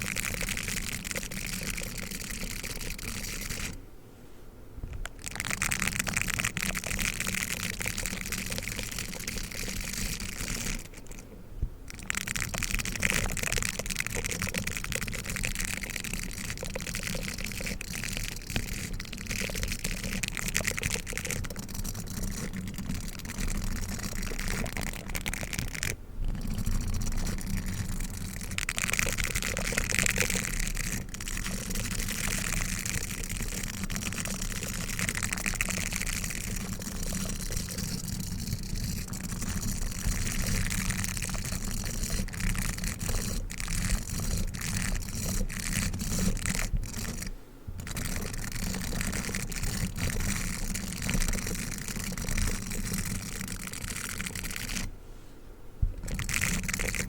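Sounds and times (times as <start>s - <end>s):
toothbrush scratchy rustling: 0.0s - 3.8s, 5.0s - 55.0s, 55.9s - 57.0s.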